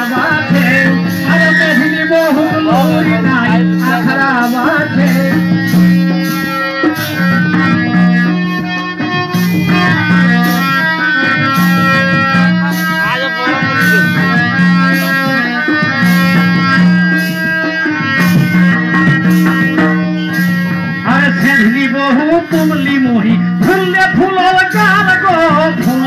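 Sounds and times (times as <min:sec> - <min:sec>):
melodic instruments: 0:00.0 - 0:23.5
repeating drum rhythm: 0:00.0 - 0:26.0.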